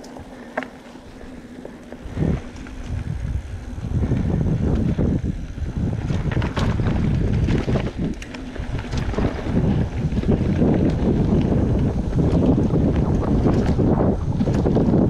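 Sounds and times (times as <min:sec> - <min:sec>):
bike rattling and knocking: 0:00.0 - 0:15.0
mountain bike rumble on dirt: 0:00.0 - 0:15.0
wind buffeting microphone: 0:00.0 - 0:15.0.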